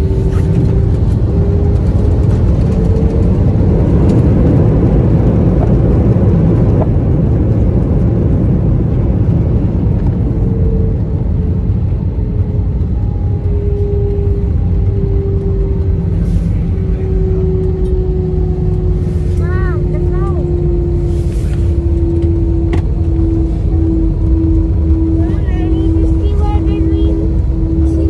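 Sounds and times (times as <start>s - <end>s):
jet engines roaring: 0.0s - 28.0s
wheels rumbling on runway: 0.0s - 28.0s.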